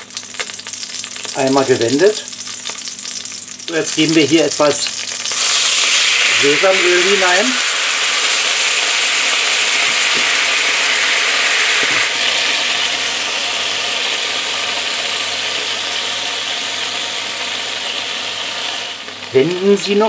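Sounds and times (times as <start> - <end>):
prawn sizzling in hot oil: 0.0 - 20.0.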